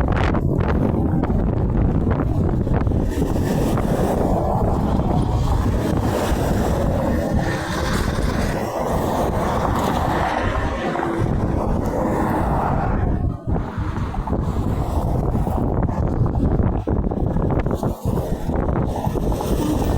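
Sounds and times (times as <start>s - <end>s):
truck engines and tyres rumbling: 0.0s - 19.9s
wind buffeting microphone: 0.0s - 19.9s
highway traffic rushing past: 0.9s - 17.2s.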